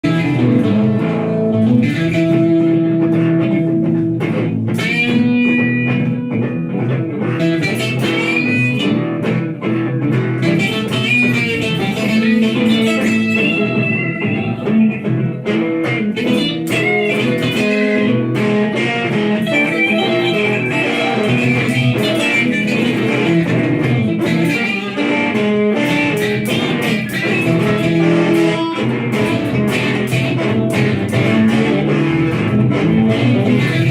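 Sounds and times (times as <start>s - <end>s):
electric guitar chords: 0.0s - 33.9s
electric guitar lead line: 0.0s - 33.9s.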